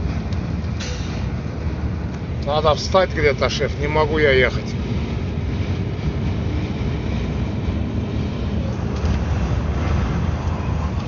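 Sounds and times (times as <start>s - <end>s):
vehicle running noise: 0.0s - 11.0s
wind buffeting vehicle: 0.0s - 11.0s.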